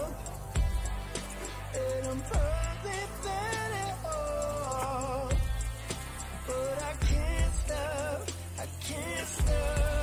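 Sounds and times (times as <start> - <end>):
music with melody bass and beat: 0.0 - 10.0.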